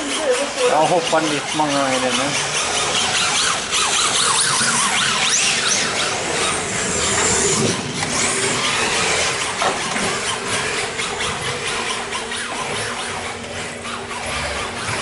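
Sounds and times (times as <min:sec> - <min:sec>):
electric toy car motors whining: 0:00.0 - 0:15.0.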